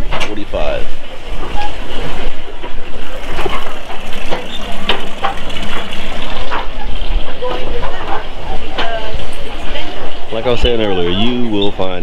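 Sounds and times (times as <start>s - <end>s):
outdoor background rumble: 0.0s - 12.0s
faint distant voices: 1.9s - 12.0s.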